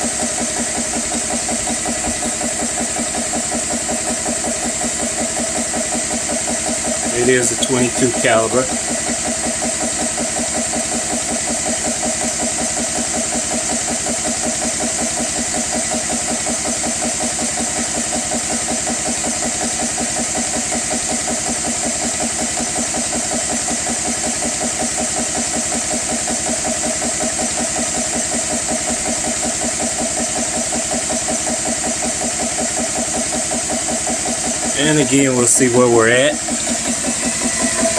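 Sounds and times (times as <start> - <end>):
air compressor pumping: 0.0 - 37.9.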